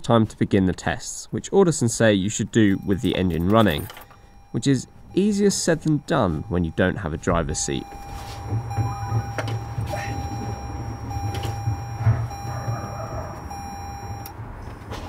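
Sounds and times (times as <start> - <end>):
low steady hum: 0.0 - 14.8
electronic warning beeps: 2.6 - 14.8.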